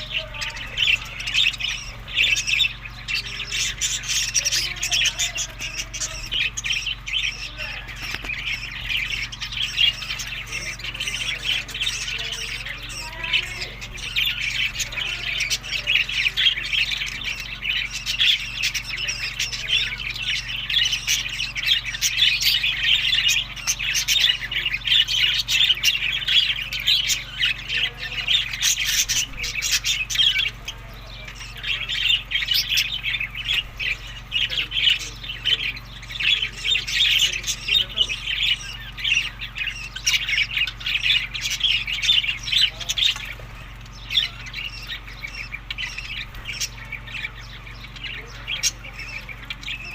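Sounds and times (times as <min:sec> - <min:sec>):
budgerigars chattering and squawking: 0:00.0 - 0:49.9.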